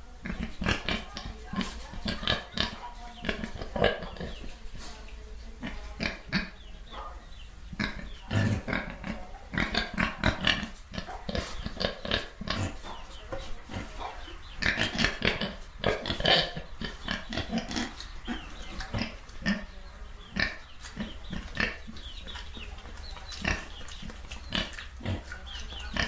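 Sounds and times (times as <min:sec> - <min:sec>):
pigs grunting and oinking: 0:00.2 - 0:04.5, 0:05.6 - 0:06.6, 0:07.7 - 0:26.0.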